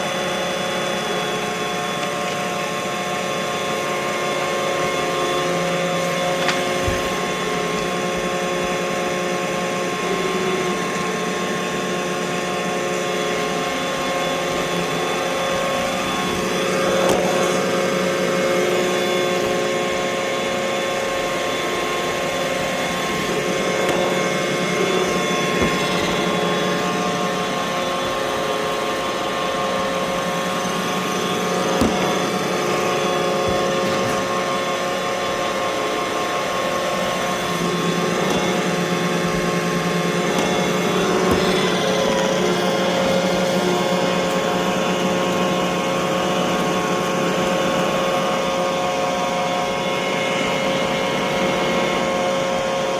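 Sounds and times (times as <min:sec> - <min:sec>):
robot vacuum whirring: 0:00.0 - 0:52.9.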